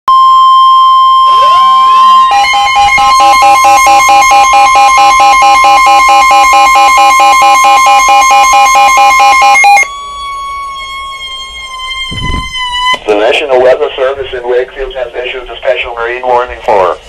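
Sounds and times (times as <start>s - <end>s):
loud steady alert tone: 0.1s - 14.1s
rapidly pulsing alarm tone: 0.1s - 14.2s.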